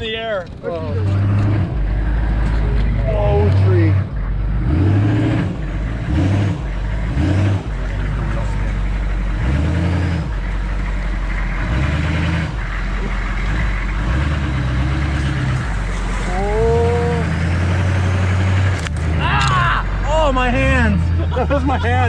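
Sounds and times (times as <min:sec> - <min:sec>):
off-road engine pulling: 0:00.0 - 0:22.0.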